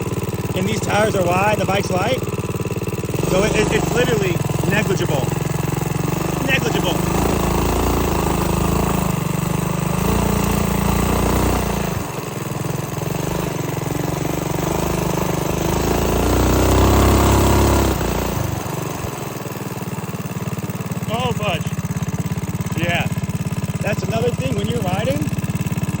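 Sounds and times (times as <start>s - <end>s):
minibike engine revving: 0.0s - 26.0s.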